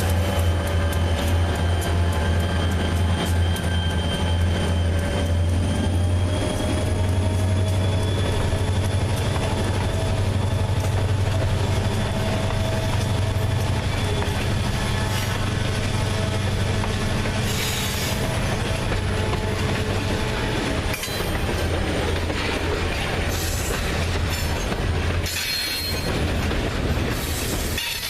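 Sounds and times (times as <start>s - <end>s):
diesel train engine drone: 0.0s - 28.0s.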